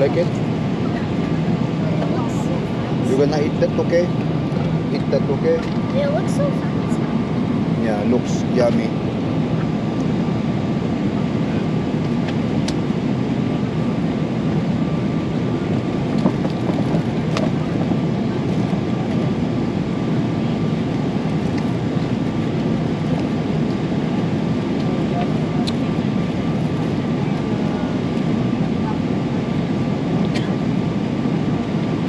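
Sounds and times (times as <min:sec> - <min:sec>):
airliner engine and airflow rush: 0:00.0 - 0:32.0.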